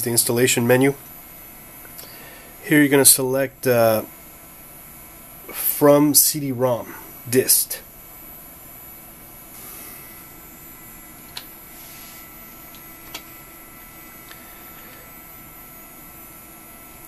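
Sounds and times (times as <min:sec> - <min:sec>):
computer and room hum: 0:00.0 - 0:17.0.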